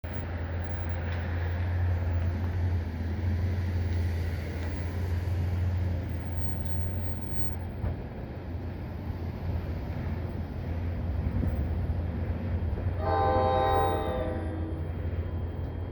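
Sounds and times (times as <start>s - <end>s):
diesel train rumble: 0.0s - 15.9s.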